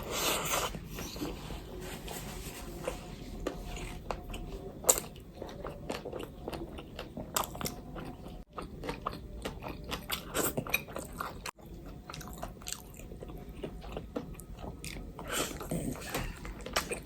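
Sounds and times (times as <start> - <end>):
close-miked chewing and biting: 2.8 - 17.0.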